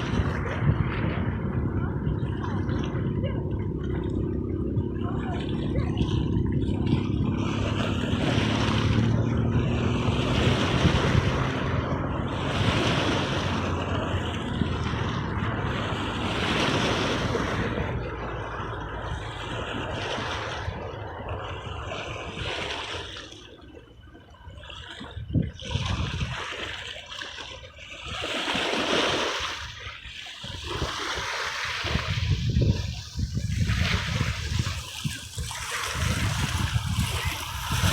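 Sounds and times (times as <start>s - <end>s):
wind on microphone: 0.0s - 26.8s, 28.0s - 37.9s
sea waves washing onto shore: 0.0s - 37.9s.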